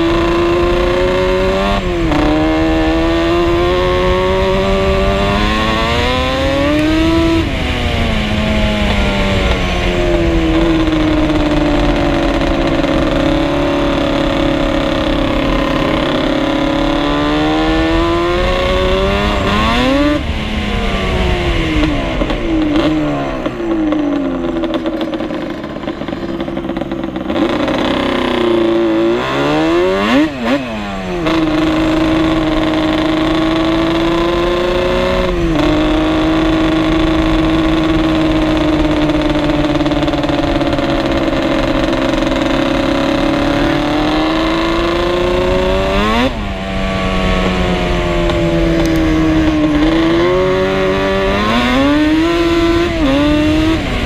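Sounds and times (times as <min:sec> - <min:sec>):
quad engine running at speed: 0:00.0 - 0:54.0.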